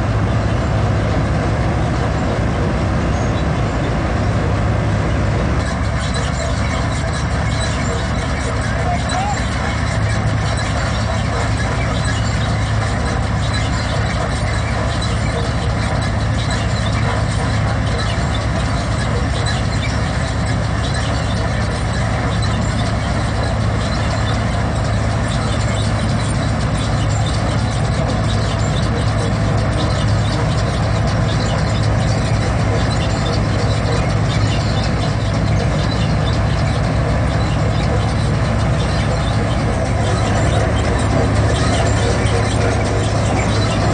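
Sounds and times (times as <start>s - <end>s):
combine harvester running: 0.0s - 43.9s.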